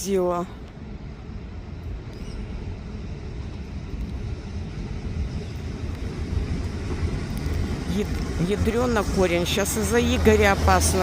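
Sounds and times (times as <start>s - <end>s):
vehicle engine and tyres rumbling: 0.6s - 11.0s.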